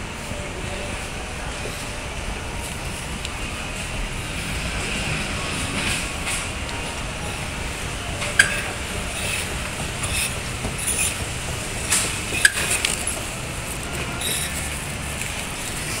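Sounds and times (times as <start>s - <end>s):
moving walkway rumbling: 0.0s - 16.0s.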